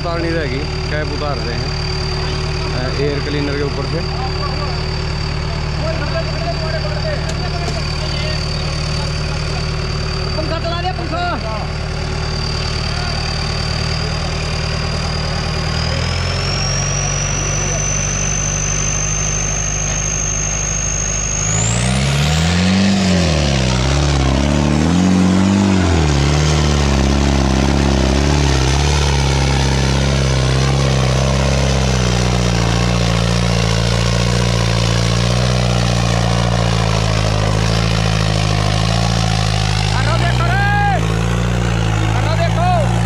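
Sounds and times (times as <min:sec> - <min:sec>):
high whine: 0:00.0 - 0:43.0
tractor engine revving: 0:00.0 - 0:43.0.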